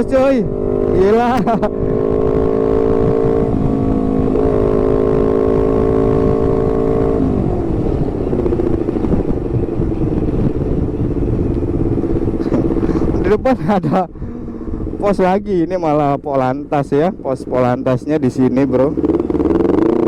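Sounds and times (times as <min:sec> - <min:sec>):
motorcycle engine running: 0:00.0 - 0:20.0
wind over microphone: 0:00.0 - 0:20.0.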